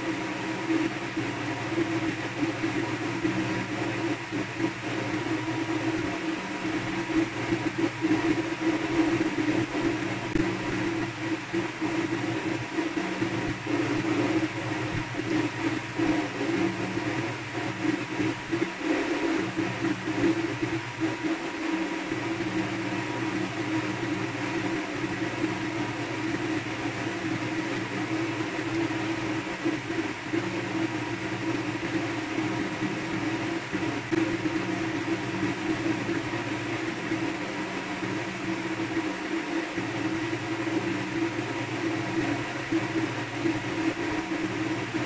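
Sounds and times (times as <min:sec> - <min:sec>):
mechanical drone with whir: 0:00.0 - 0:45.0.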